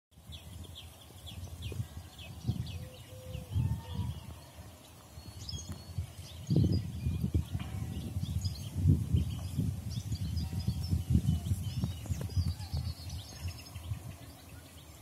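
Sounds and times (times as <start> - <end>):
bird chirping: 0.2 - 15.0
wind buffeting microphone: 0.2 - 15.0.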